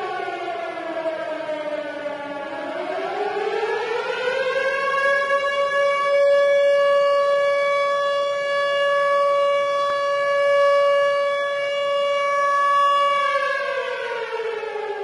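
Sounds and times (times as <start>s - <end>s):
warning siren: 0.0s - 15.0s.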